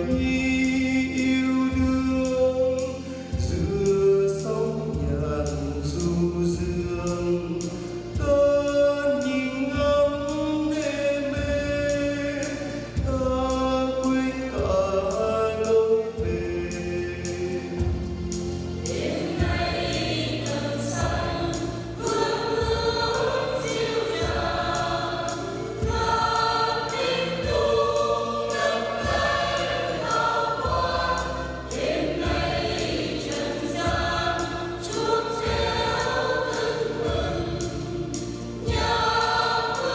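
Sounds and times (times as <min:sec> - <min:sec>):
church choir singing a hymn: 0:00.0 - 0:39.9
instrumental accompaniment with bass: 0:00.0 - 0:39.9.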